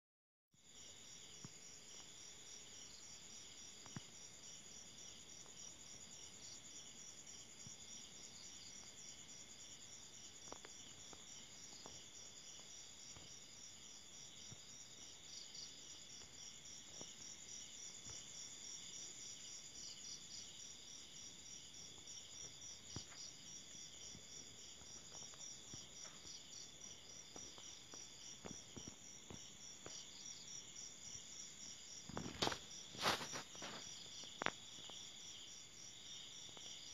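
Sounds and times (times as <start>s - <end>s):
crickets and cicadas trilling: 0.7s - 36.9s.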